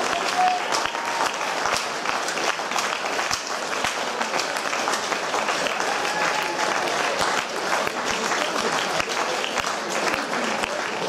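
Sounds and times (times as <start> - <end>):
many hands clapping: 0.0 - 11.0.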